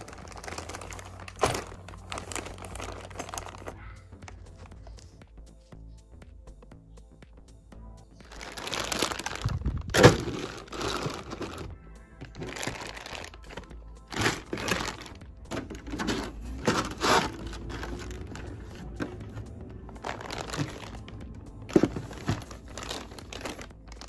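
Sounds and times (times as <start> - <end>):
plastic bags crinkling: 0.0 - 4.4, 8.2 - 19.4, 20.0 - 24.0
soft background music: 0.0 - 24.0.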